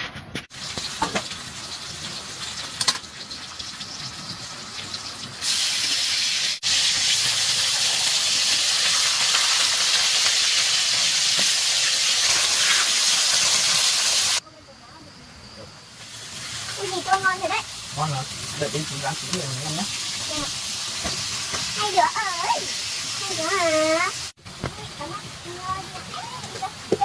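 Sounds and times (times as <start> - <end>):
fish sizzling in hot oil: 0.5 - 14.4, 15.9 - 27.0.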